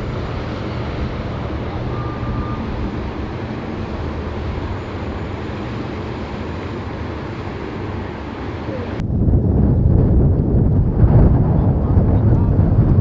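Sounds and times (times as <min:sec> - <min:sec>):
road noise rumble: 0:00.0 - 0:13.0
wind buffeting microphone: 0:00.0 - 0:13.0.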